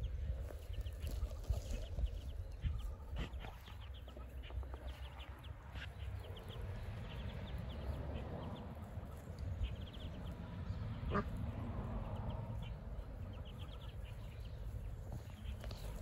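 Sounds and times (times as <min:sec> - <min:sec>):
ducklings peeping: 0:00.0 - 0:16.0
steady low rumble: 0:00.0 - 0:16.0.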